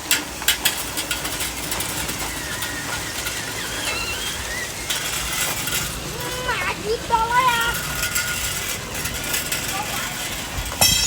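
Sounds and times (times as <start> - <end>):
toy electric motor whining: 1.4 - 11.0.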